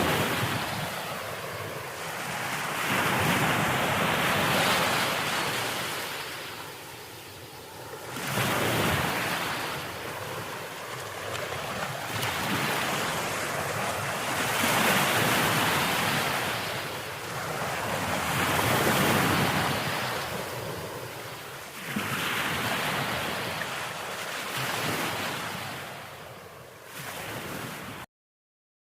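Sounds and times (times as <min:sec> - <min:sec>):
wind noise on microphone: 0:00.0 - 0:07.0, 0:08.1 - 0:28.0
ocean waves breaking: 0:00.0 - 0:28.0.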